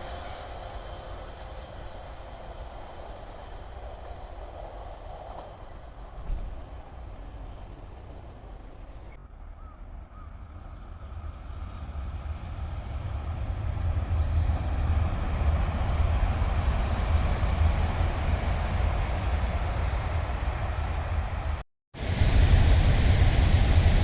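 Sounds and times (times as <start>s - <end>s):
train passing rumble: 0.0s - 24.0s.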